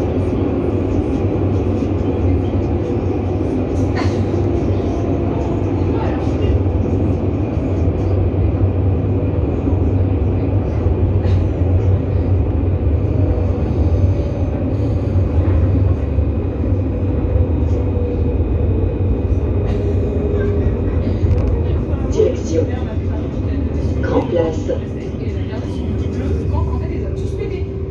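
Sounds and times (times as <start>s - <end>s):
tram wheels rumbling on rails: 0.0s - 27.9s.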